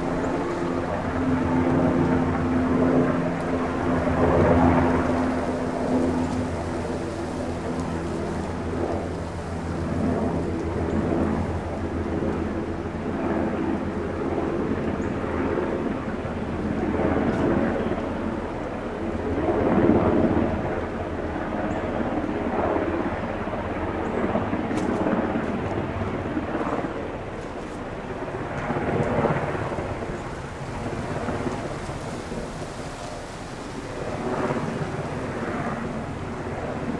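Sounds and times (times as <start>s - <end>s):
aircraft engine rumble: 0.0s - 36.9s.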